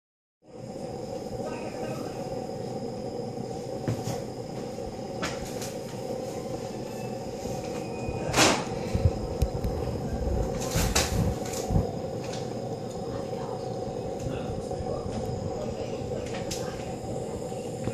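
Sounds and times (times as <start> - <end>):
gas burner hissing: 0.4 - 17.9.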